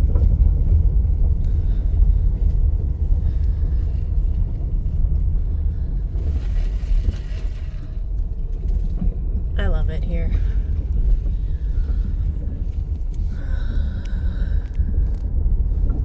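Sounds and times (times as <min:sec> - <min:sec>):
car tyres rumbling on gravel: 0:00.0 - 0:16.0.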